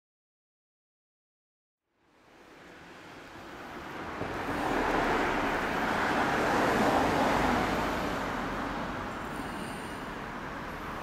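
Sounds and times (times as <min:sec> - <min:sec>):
road vehicle passing by: 0:02.0 - 0:11.0.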